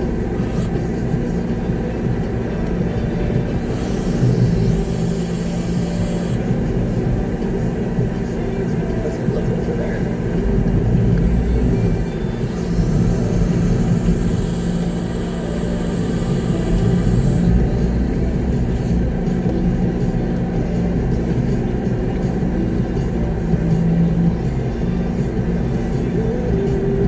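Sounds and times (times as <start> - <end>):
diesel truck engine running: 0.0 - 27.0.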